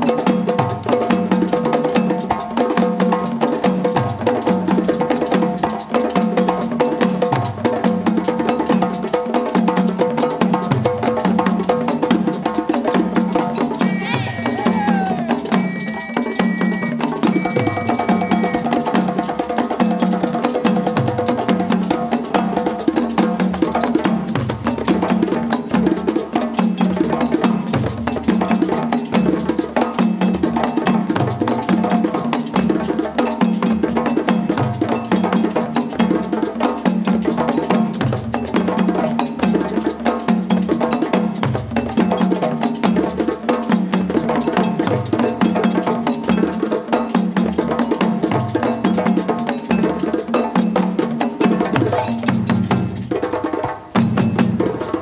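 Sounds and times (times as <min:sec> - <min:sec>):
fast percussion rhythm: 0:00.0 - 0:55.0.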